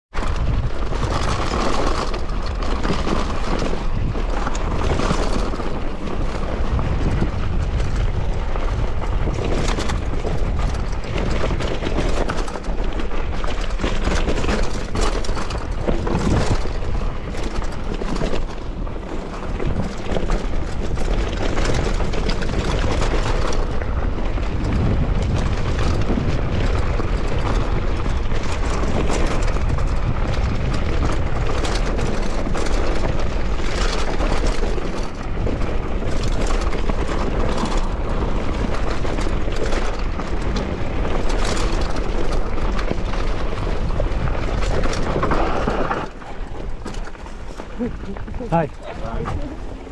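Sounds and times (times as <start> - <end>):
wind buffeting microphone: 0.1 - 49.9.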